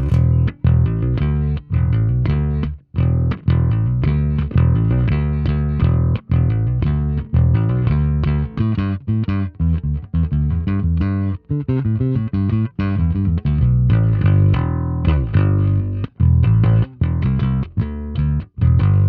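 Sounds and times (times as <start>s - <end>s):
electric bass plucked fingerstyle: 0.0s - 19.0s.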